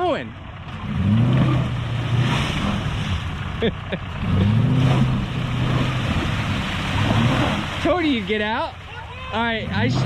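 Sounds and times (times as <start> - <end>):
off-road engine revving: 0.0 - 10.0
tyres churning through mud: 0.0 - 10.0.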